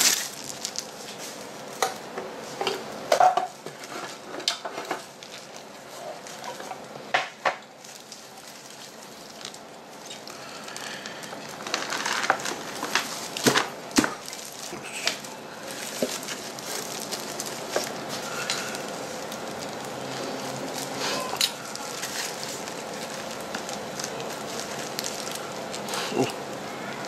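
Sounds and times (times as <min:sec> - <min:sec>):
plastic gloves rustling: 0:00.0 - 0:27.0.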